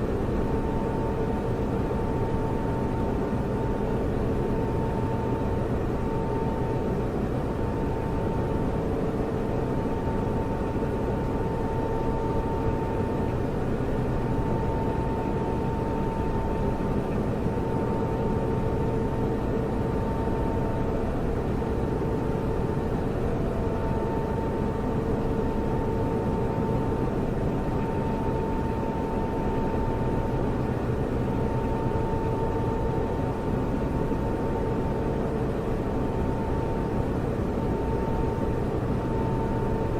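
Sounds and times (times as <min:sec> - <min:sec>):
cooling fans whirring: 0:00.0 - 0:39.9
faint high whine: 0:00.0 - 0:39.9.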